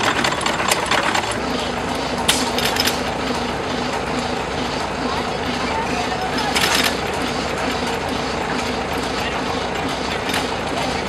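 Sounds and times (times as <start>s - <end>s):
gas engine running: 0.0s - 11.0s.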